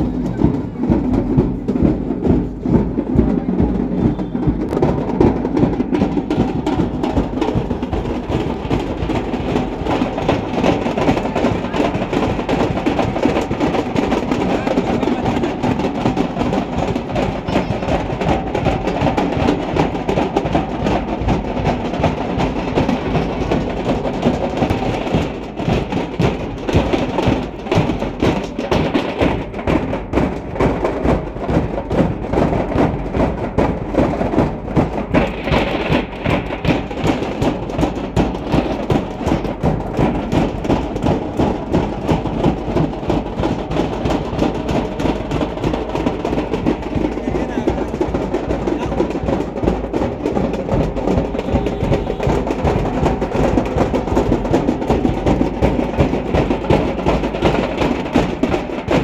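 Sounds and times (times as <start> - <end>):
drums beating steady rhythm: 0.0 - 59.0.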